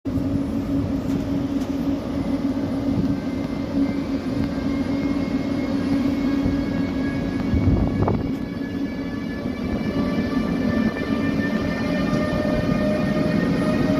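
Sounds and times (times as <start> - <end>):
electric locomotive hum: 0.1 - 13.9
high whine: 0.1 - 13.9.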